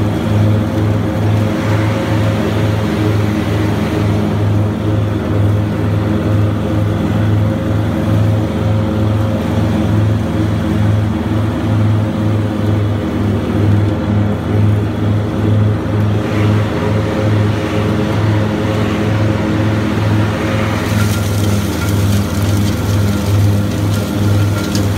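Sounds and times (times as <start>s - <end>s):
mower diesel engine droning: 0.0s - 24.9s.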